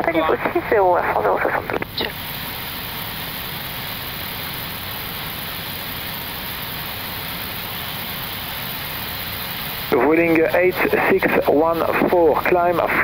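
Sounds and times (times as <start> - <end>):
cockpit airflow rushing: 0.3 - 13.0.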